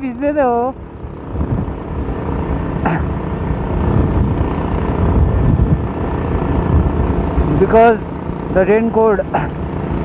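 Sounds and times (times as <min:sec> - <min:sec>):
motorcycle riding rumble: 0:00.0 - 0:10.0.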